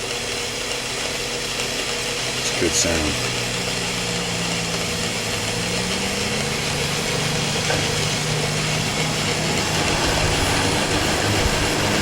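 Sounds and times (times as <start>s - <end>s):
cutting tool hissing: 0.0s - 12.0s
lathe motor humming: 0.0s - 12.0s.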